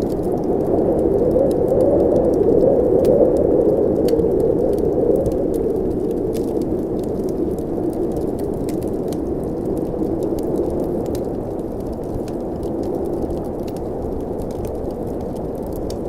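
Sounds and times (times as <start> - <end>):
blizzard wind blowing: 0.0 - 16.0
wood fire crackling: 0.0 - 16.0.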